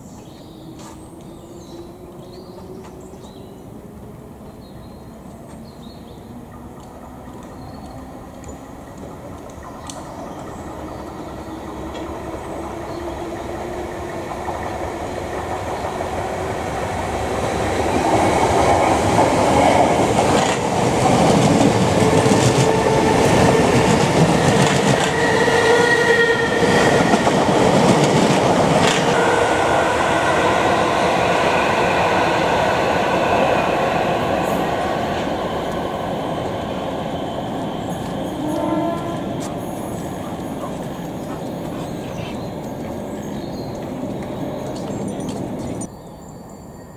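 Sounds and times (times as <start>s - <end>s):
electric train passing: 0.0s - 46.0s.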